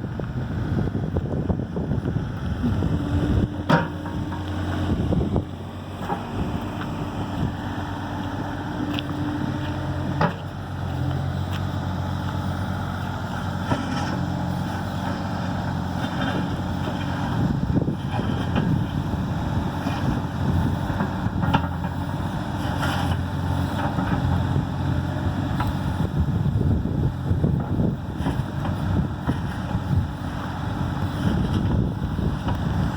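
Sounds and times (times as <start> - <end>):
wind buffeting microphone: 0.0 - 11.9, 13.4 - 32.9
excavator diesel engine running: 0.0 - 32.9.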